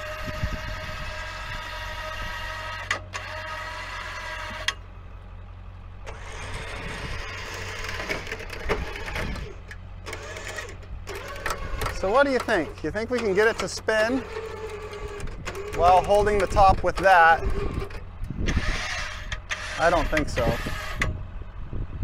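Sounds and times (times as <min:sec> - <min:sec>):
winch whining: 0:00.0 - 0:21.6
rough mechanical noise: 0:00.0 - 0:22.0
truck engine humming: 0:00.0 - 0:22.0.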